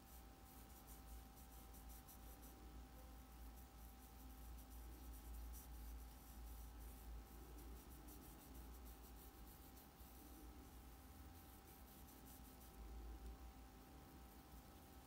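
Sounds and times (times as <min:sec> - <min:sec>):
paintbrush scratching on fabric: 0:00.0 - 0:13.2, 0:14.1 - 0:15.0
low steady hum: 0:00.0 - 0:15.0
thin steady tone: 0:00.0 - 0:15.0.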